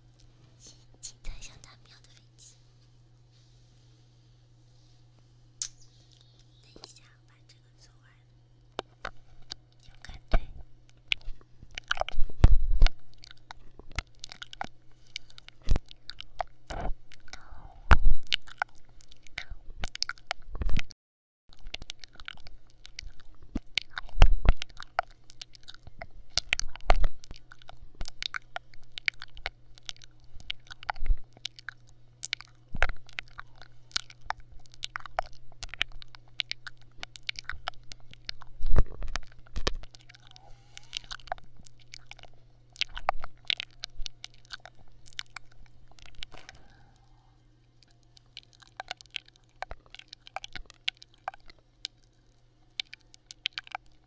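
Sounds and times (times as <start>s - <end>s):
faint low hum: 0.0s - 20.9s, 21.5s - 54.0s
close crackling and crunching: 5.6s - 20.9s, 21.5s - 54.0s.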